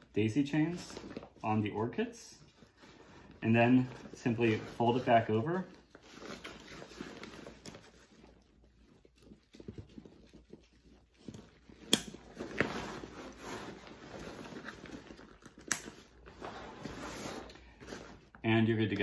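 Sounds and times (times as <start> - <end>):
fabric and straps rustling: 0.0 - 18.5.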